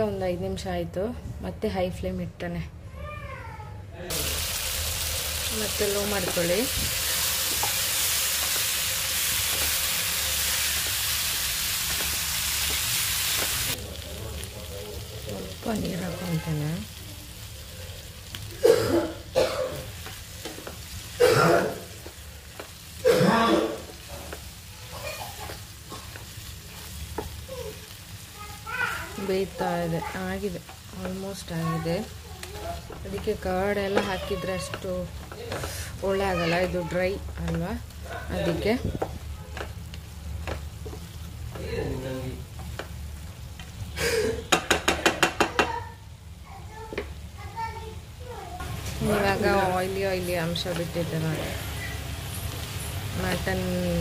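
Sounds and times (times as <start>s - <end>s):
meat sizzling in a frying pan: 4.1s - 54.0s.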